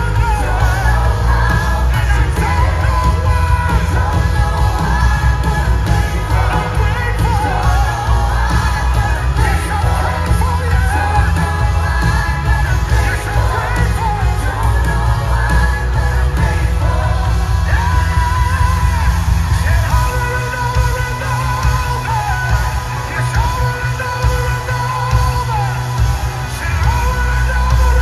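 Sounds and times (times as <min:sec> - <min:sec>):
heavy steady bass: 0:00.0 - 0:28.0
person singing: 0:00.0 - 0:28.0
worship band playing loudly: 0:00.0 - 0:28.0.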